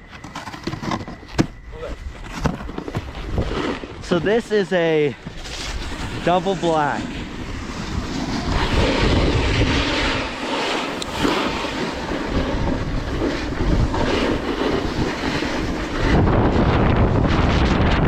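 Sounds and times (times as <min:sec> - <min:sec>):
wind buffeting microphone: 0:01.5 - 0:18.0
snowboard scraping over icy snow: 0:01.7 - 0:18.0.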